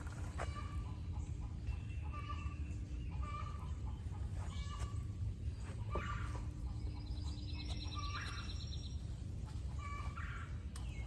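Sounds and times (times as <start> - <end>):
birds chirping: 0.0 - 11.0
high bird trill: 0.3 - 11.0.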